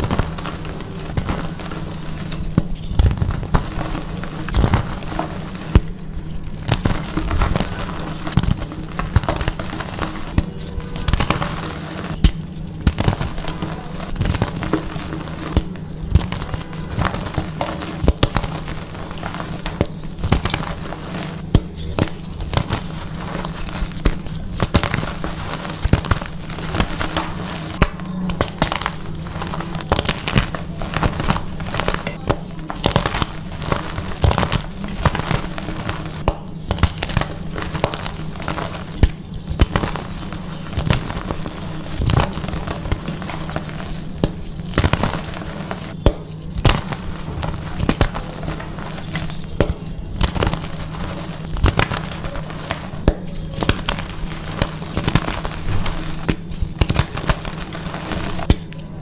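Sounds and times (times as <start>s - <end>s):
chalk crunching by hand: 0.0s - 59.0s.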